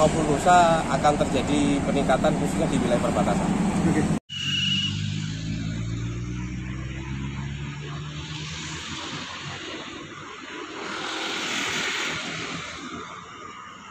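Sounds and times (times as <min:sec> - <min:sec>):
cars driving past: 0:00.0 - 0:13.9.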